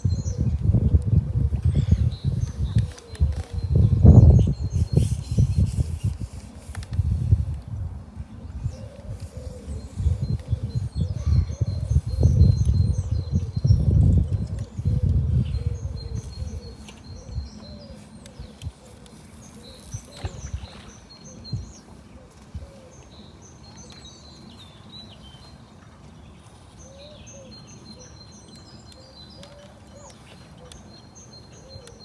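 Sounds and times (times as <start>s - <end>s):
small birds chirping and singing: 0.0s - 32.0s.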